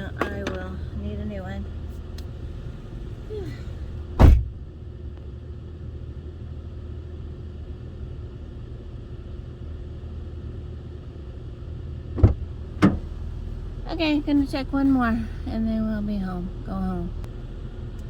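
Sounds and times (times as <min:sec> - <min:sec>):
vehicle rumble from inside: 0:00.0 - 0:18.0.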